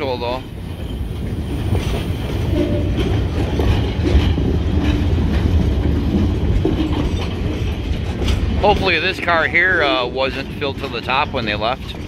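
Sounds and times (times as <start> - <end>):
freight cars rumbling on rails: 0.0 - 12.0.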